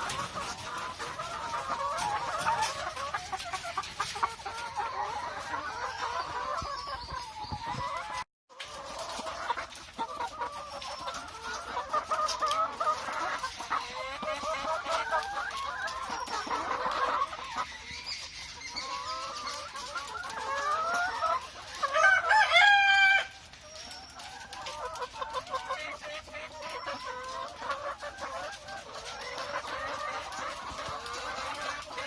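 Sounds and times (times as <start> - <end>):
hens clucking and calling: 0.0 - 32.0.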